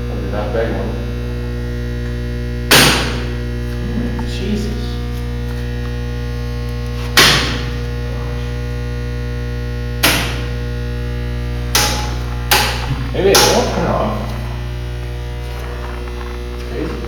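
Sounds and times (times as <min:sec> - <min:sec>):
circuit breakers clacking: 0:00.0 - 0:17.0
electrical mains hum: 0:00.0 - 0:17.0.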